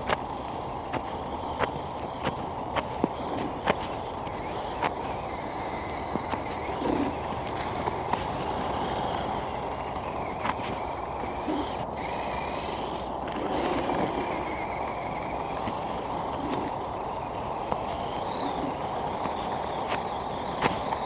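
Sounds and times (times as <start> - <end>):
small electric motors whining: 0.0 - 21.0
steady rushing noise: 0.0 - 21.0.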